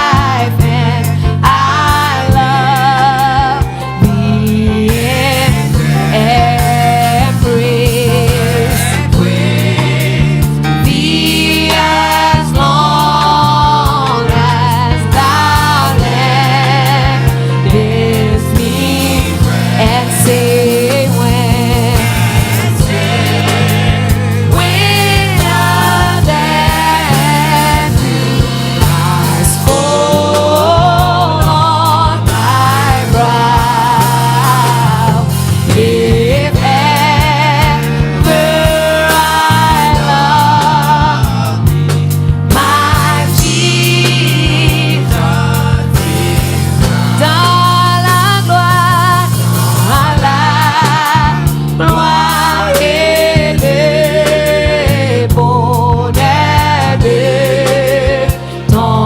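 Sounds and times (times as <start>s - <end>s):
band with bass and drums: 0.0s - 59.0s
slow worship music: 0.0s - 59.0s
voices singing gospel: 0.0s - 59.0s.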